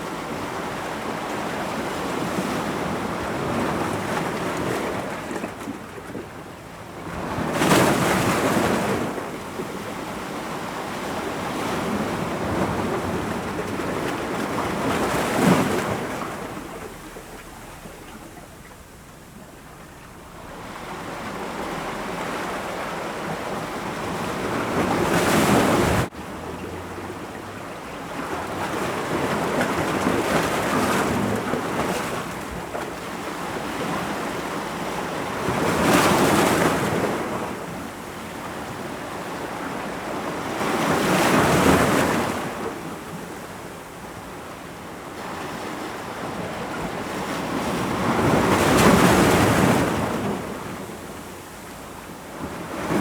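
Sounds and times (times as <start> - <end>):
ocean waves breaking against rocks: 0.0 - 53.0.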